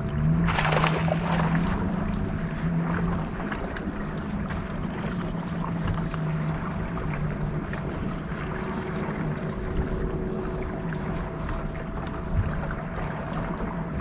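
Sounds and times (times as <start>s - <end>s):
boat motor humming: 0.0s - 14.0s
water noise: 0.0s - 14.0s
wind: 0.0s - 14.0s.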